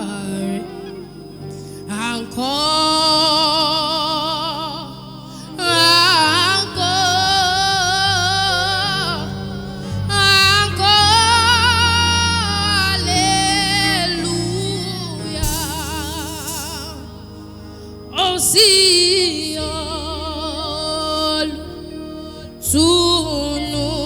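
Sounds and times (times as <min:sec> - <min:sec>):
solo singer with vibrato: 0:00.0 - 0:24.0
steady low accompaniment: 0:00.0 - 0:24.0.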